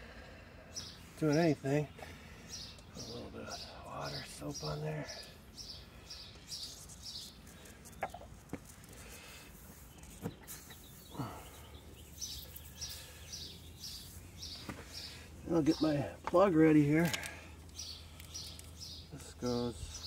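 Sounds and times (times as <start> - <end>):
small bird chirping: 0.7 - 16.0, 17.6 - 20.0.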